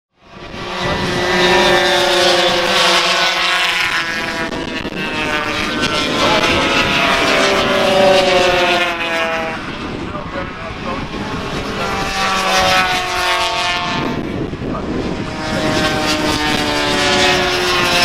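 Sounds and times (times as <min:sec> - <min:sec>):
racing motorcycles passing at high revs: 0:00.2 - 0:18.0.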